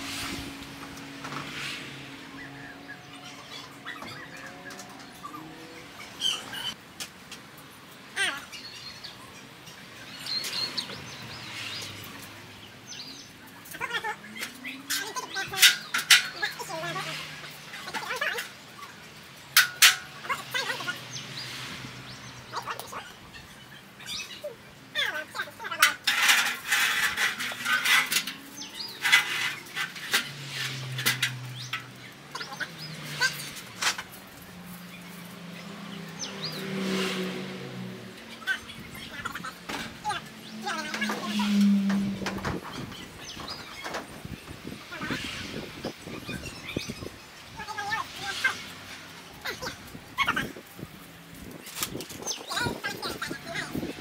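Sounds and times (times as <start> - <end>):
outdoor background noise: 0.0 - 54.0
birds chirping: 0.7 - 6.8, 7.6 - 54.0.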